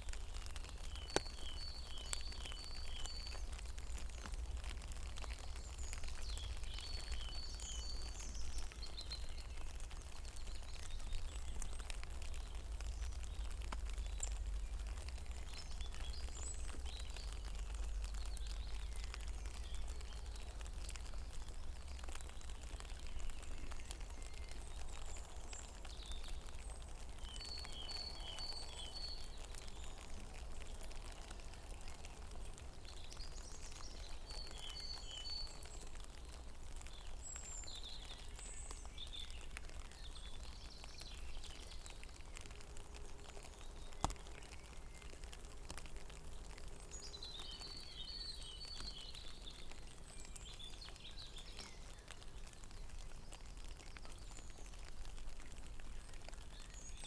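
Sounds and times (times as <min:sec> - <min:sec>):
rain pattering on pond: 0:00.0 - 0:57.0.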